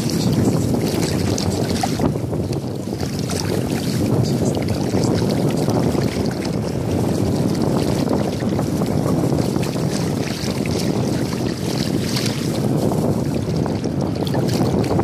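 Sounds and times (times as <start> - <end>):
splashing in shallow water: 0.0 - 15.0
wind buffeting microphone: 0.0 - 15.0.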